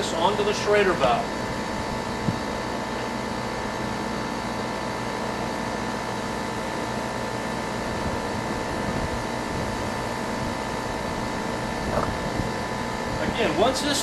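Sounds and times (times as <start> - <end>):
air conditioner unit humming: 0.0 - 14.0.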